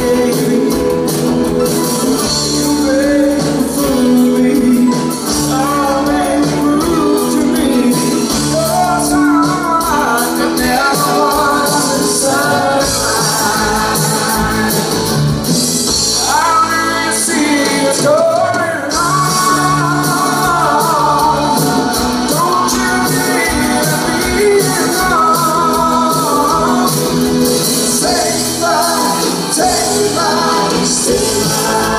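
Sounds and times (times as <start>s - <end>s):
live pop-rock band playing: 0.0s - 31.9s
male lead vocal singing: 0.0s - 31.9s.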